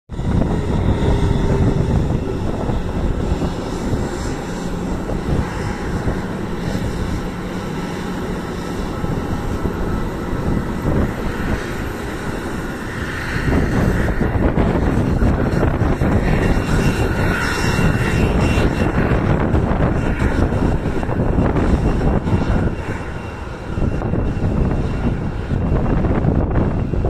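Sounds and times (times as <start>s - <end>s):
jet engines rumbling while taxiing: 0.1s - 27.0s.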